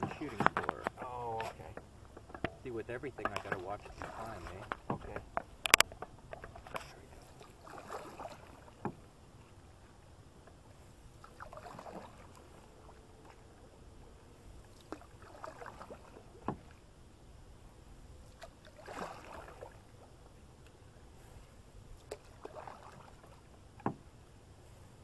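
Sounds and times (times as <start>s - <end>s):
paddle splashing through water: 0.0s - 16.8s, 18.2s - 25.0s.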